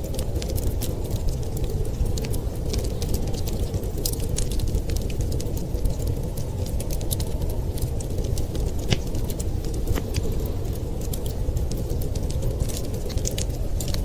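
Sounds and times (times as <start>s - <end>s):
low rumble of storm wind: 0.0s - 14.0s
wood fire crackling and popping: 0.0s - 14.0s.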